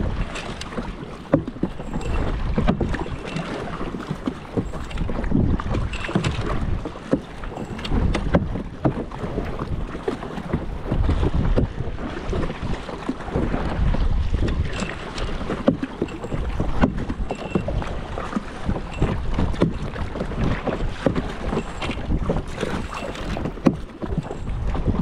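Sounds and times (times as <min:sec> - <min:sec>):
paddles splashing through water: 0:00.0 - 0:25.0
wind buffeting microphone: 0:00.0 - 0:25.0.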